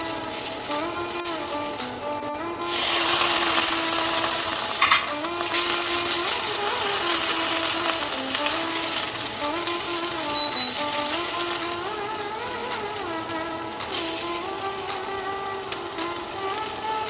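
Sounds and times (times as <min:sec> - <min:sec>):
leaves sizzling in hot oil: 0:00.0 - 0:17.0.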